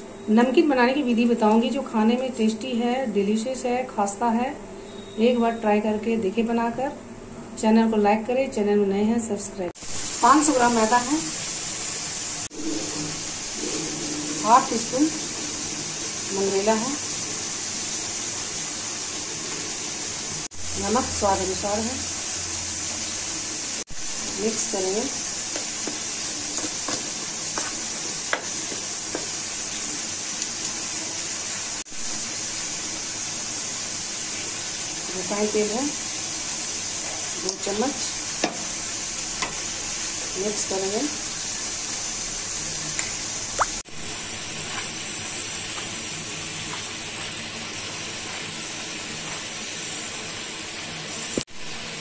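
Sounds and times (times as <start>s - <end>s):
steady hiss: 9.8s - 51.4s.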